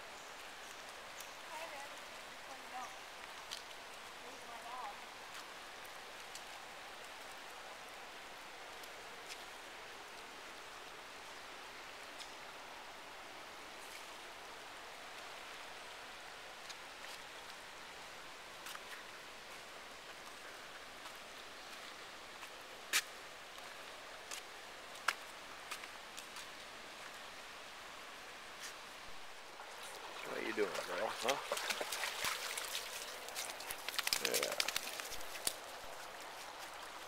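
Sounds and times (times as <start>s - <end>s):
river water rushing over rocks: 5.0s - 37.0s.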